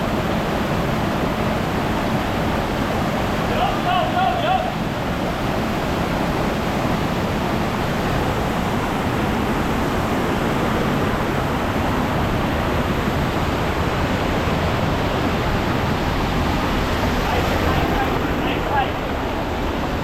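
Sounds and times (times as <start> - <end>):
river water rushing over rocks: 0.1 - 20.0.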